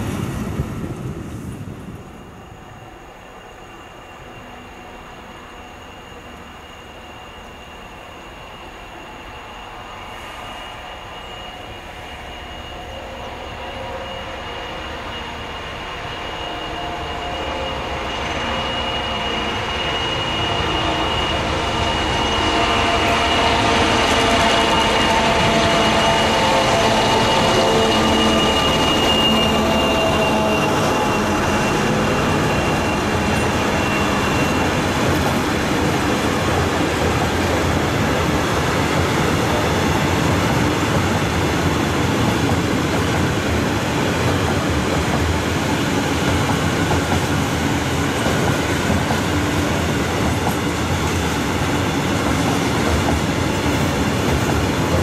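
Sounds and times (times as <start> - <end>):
diesel locomotive engine whine: 0.0 - 55.0.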